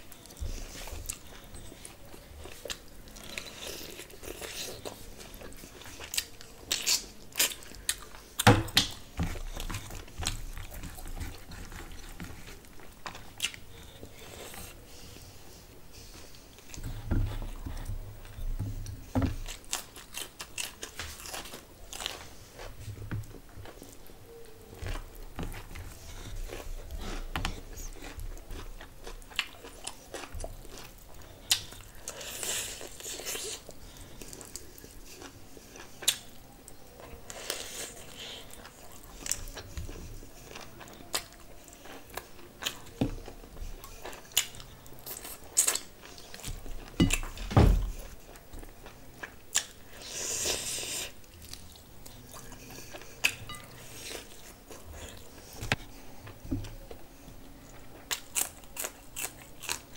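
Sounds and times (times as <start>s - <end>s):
biting and chewing food: 0.0s - 59.9s.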